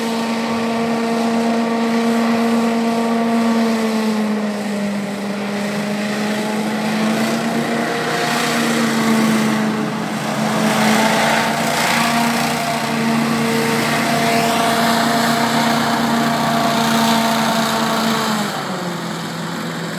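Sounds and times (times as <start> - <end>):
hovercraft engine and fan: 0.0 - 19.9.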